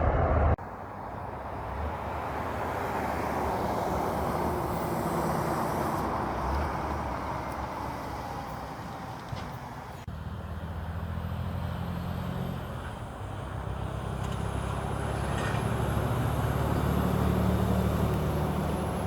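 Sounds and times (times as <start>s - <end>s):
truck driving past: 0.0s - 19.0s.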